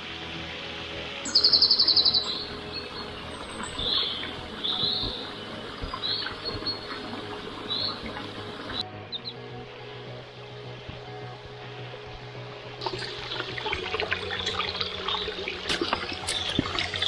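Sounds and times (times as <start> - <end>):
songbirds chirping: 1.2 - 10.6, 12.5 - 17.0.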